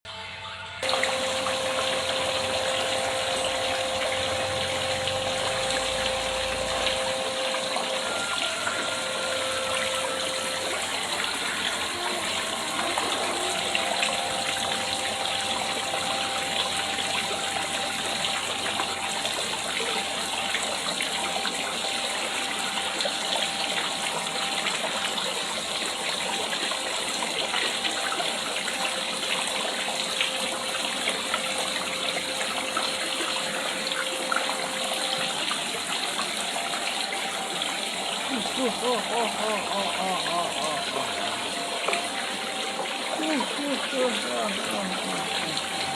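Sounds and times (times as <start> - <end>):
water splashing into pond: 0.8 - 45.9.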